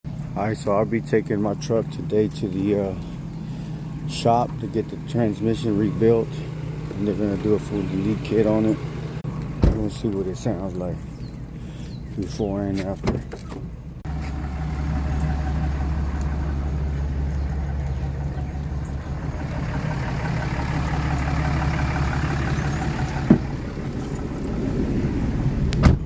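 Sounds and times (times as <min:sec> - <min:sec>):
diesel engine idling: 0:00.1 - 0:26.0.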